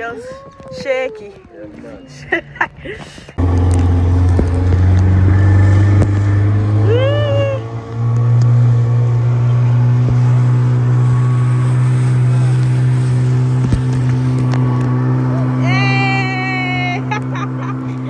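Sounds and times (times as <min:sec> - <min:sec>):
motorboat engine droning: 0:03.4 - 0:18.0.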